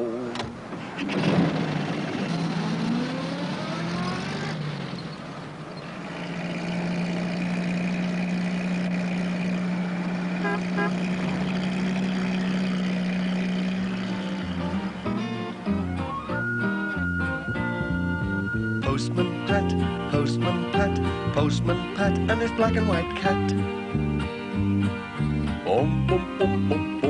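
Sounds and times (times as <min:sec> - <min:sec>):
van engine pulling away: 0:00.0 - 0:27.0.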